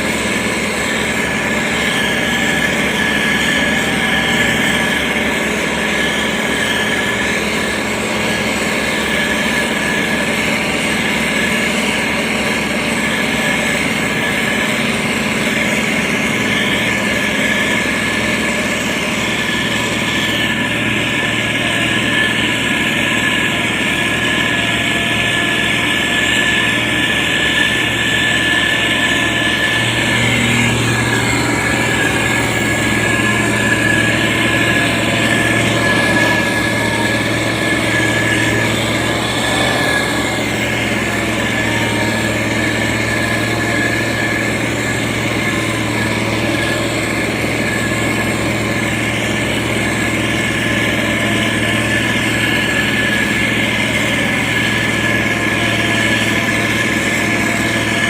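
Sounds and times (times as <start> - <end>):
heavy diesel engine running: 0.0 - 58.0
steady machine whine: 0.0 - 58.0.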